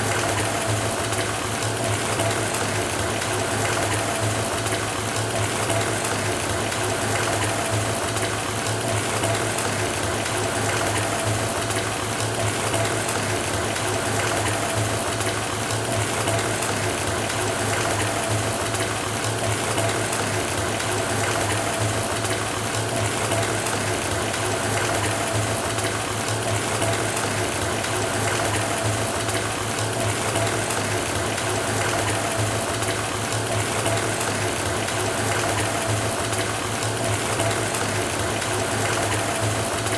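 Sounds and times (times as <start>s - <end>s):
water pouring from faucet into bathtub: 0.0s - 39.9s.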